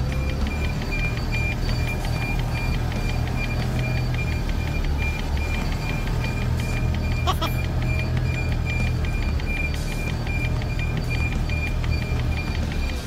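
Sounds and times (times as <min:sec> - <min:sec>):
diesel engine drone: 0:00.0 - 0:13.0
reversing alarm beeping: 0:00.0 - 0:13.0.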